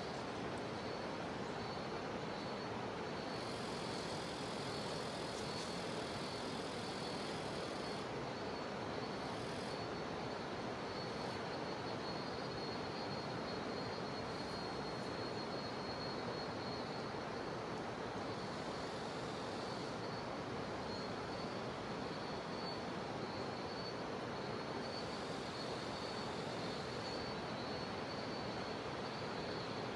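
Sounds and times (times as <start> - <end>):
cicadas droning: 0.0 - 29.9.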